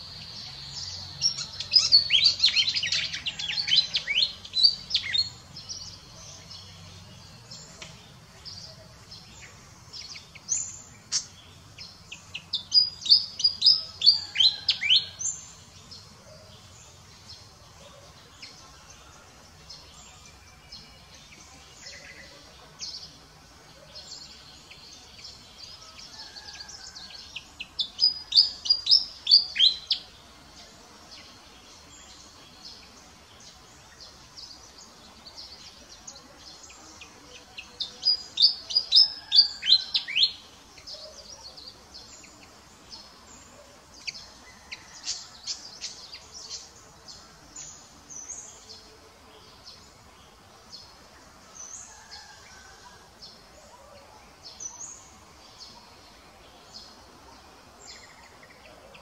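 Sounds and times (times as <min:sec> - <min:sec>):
soft outdoor background: 0:00.0 - 0:59.0.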